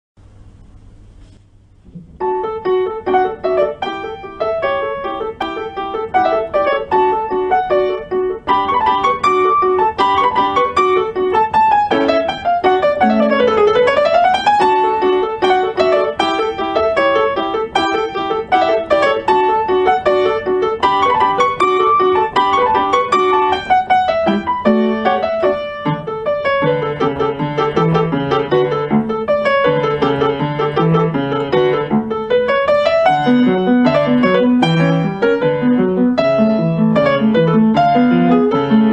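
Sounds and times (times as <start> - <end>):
piano music: 1.8 - 38.9.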